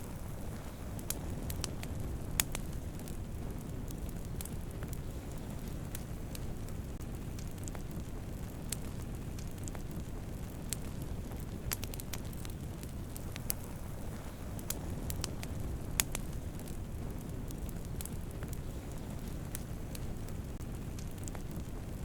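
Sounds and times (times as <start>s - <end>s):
campfire crackles and pops: 0.0s - 22.0s
low rumble of flames: 0.0s - 22.0s.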